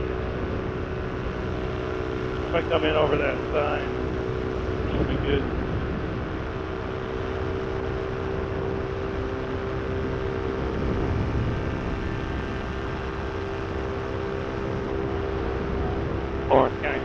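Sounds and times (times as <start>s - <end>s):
low wind rumble: 0.0s - 17.0s
paramotor engine droning: 0.0s - 17.0s.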